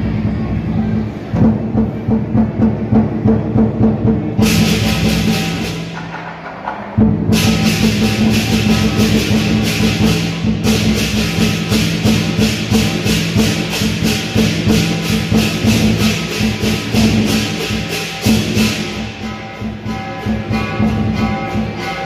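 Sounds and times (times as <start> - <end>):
large drum beating: 0.0 - 22.0
hand cymbals clashing: 4.0 - 22.0.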